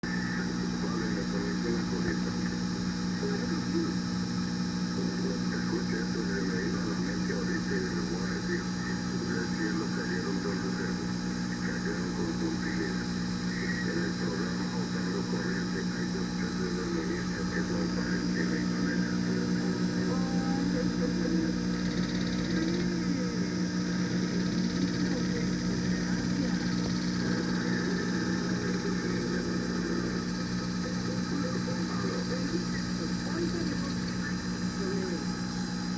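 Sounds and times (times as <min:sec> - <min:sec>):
lathe motor humming: 0:00.0 - 0:35.9.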